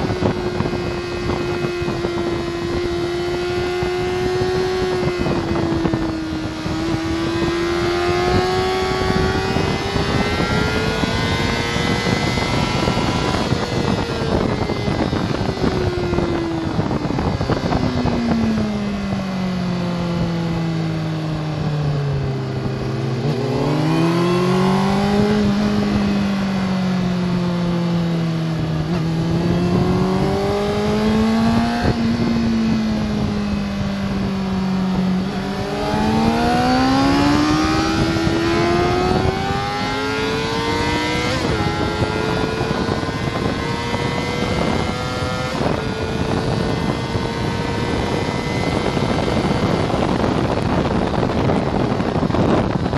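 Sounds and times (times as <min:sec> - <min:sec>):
motorcycle engine revving: 0:00.0 - 0:52.9
wind rush: 0:00.0 - 0:52.9.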